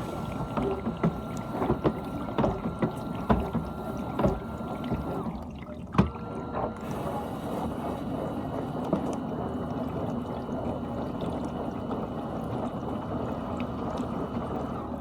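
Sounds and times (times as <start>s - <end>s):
dishwasher pump whine: 0.0s - 15.0s.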